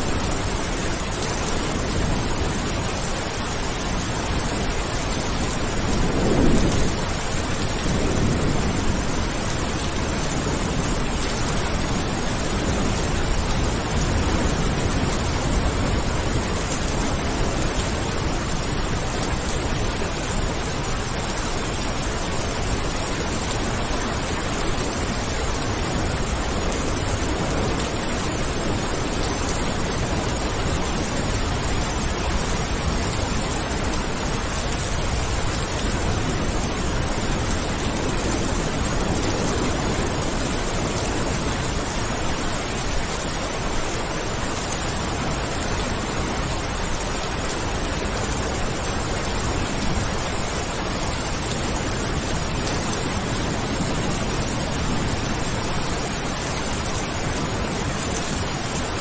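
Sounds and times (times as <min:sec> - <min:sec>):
heavy rain hissing: 0:00.0 - 0:59.0
thunder rumbling: 0:00.0 - 0:59.0.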